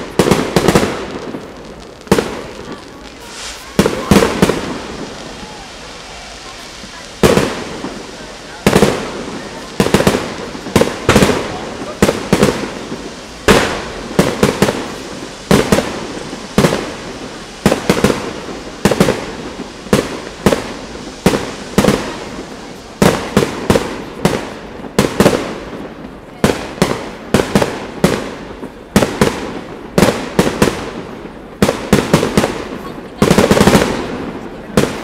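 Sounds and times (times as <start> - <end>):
fireworks bursting with sharp bangs: 0.0 - 35.0.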